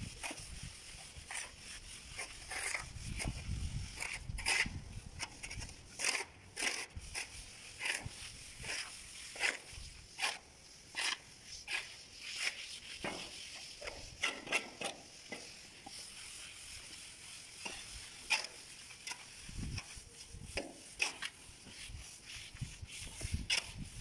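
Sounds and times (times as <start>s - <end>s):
trowels scraping wet plaster: 0.0s - 24.0s.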